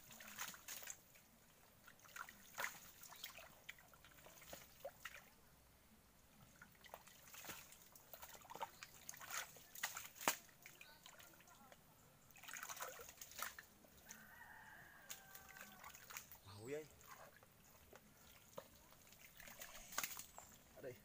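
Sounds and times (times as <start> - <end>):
small water splashes: 0.0 - 5.4, 6.4 - 21.0
squelching mud: 0.0 - 5.4, 6.4 - 14.3, 15.0 - 20.8.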